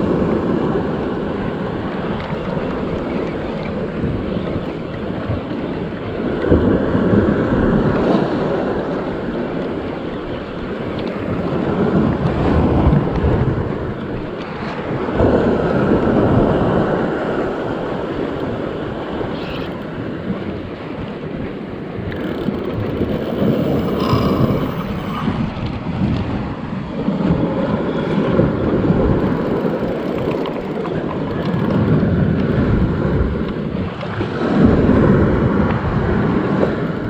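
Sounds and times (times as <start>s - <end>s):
surf washing against rocks: 0.0s - 37.0s
wind buffeting microphone: 0.0s - 37.0s.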